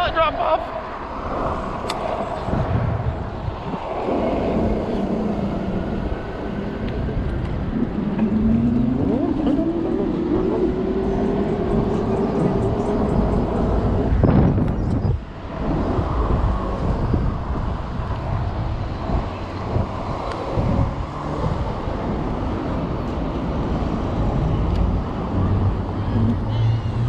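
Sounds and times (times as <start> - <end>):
traffic noise: 0.0 - 27.0
wind noise: 0.0 - 27.0.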